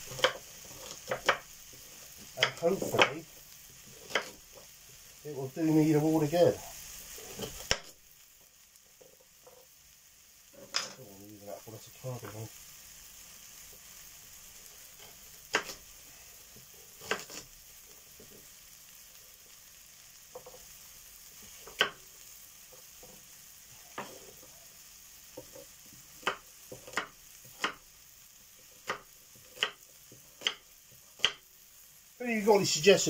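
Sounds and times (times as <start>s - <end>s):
beef sizzling in a pot: 0.0s - 33.0s.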